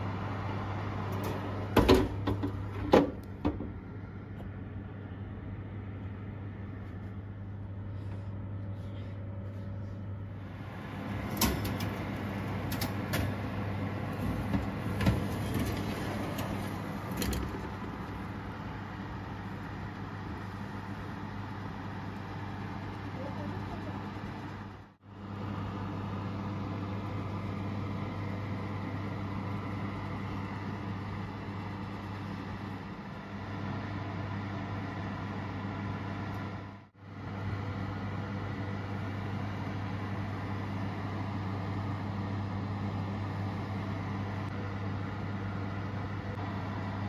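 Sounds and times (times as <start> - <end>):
oven fan motor humming: 0.0 - 47.0.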